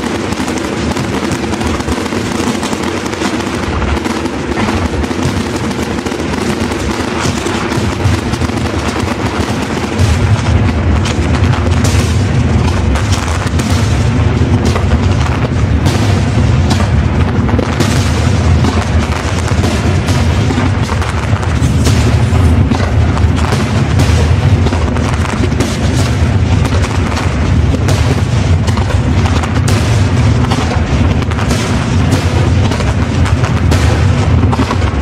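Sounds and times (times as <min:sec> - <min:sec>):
firework shells bursting: 0:00.0 - 0:35.0.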